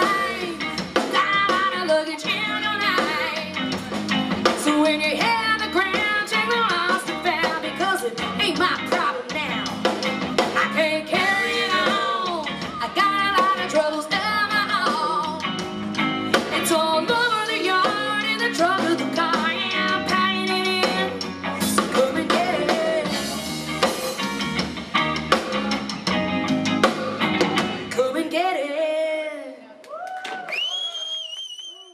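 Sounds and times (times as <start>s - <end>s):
woman singing lead: 0.0s - 24.0s, 27.4s - 30.2s
rock band playing: 0.0s - 28.5s.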